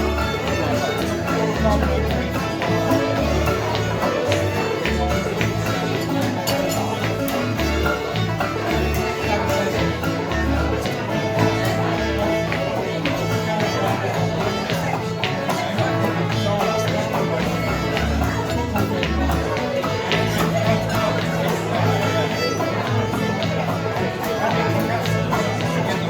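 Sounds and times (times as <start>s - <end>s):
backup guitar: 0.0s - 26.0s
clawhammer banjo: 0.0s - 26.0s
fiddles playing melody: 0.0s - 26.0s
upright bass: 0.0s - 26.0s.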